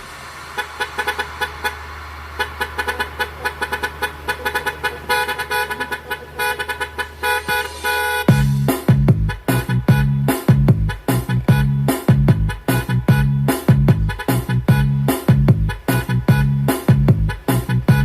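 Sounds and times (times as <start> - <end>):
heavy bass beat: 0.0 - 18.0
truck horn short blasts: 0.6 - 1.8, 2.4 - 8.5, 9.1 - 15.0, 15.6 - 16.6, 17.8 - 18.0.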